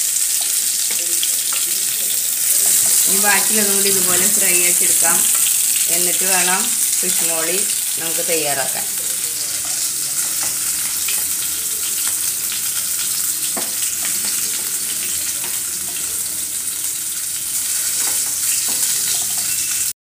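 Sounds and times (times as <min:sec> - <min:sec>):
oil sizzling in a frying pan: 0:00.0 - 0:20.0.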